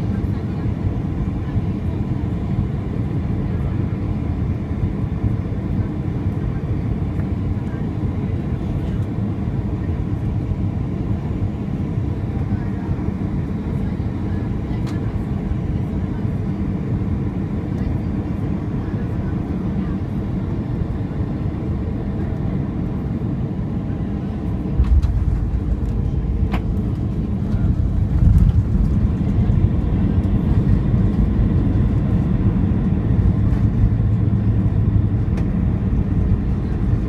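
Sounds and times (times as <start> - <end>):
aircraft cabin rumble: 0.0 - 37.0.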